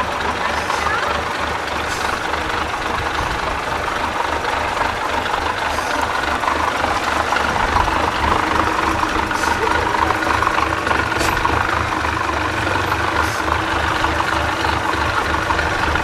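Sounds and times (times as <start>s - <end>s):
diesel truck engine low revs: 0.0s - 16.0s.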